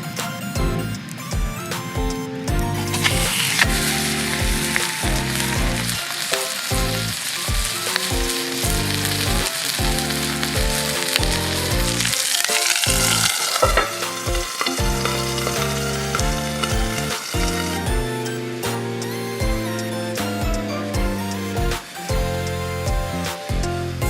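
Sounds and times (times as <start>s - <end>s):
rhythmic background music: 0.0s - 24.0s
food sizzling in frying: 2.7s - 23.4s.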